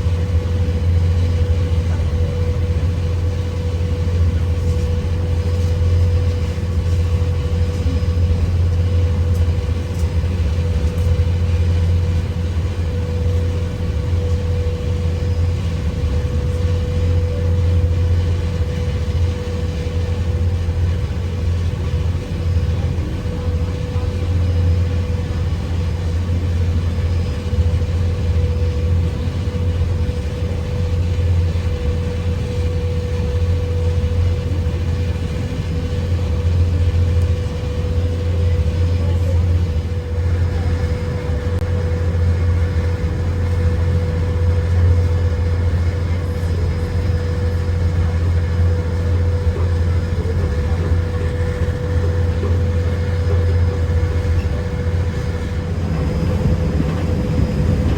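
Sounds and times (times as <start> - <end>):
low engine rumble: 0.0 - 57.9.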